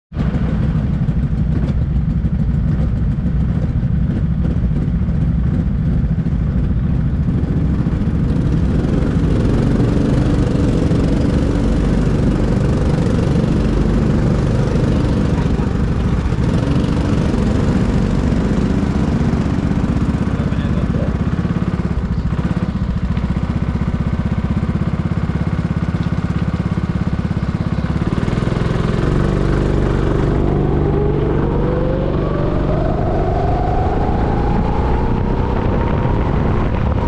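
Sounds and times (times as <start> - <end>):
go-kart engines idling: 0.1 - 32.3.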